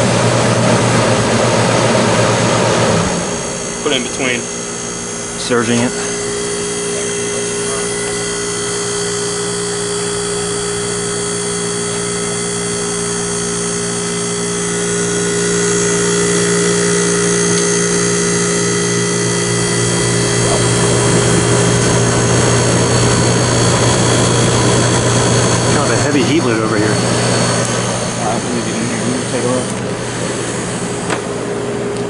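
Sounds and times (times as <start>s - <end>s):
air conditioner hum: 0.0s - 32.0s.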